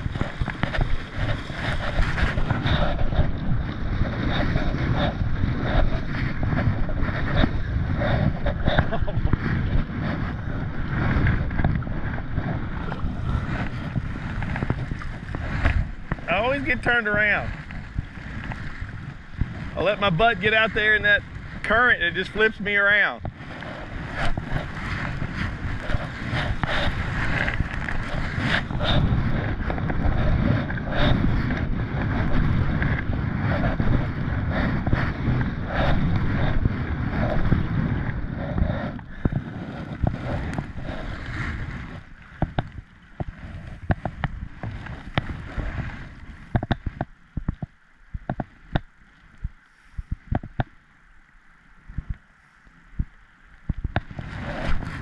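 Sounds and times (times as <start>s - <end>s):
paddle tapping: 0.0s - 20.3s, 23.2s - 34.0s, 37.1s - 50.8s
rushing river water: 0.0s - 49.8s
wind buffeting microphone: 0.0s - 50.7s, 52.9s - 55.0s
paddle strokes: 0.0s - 55.0s.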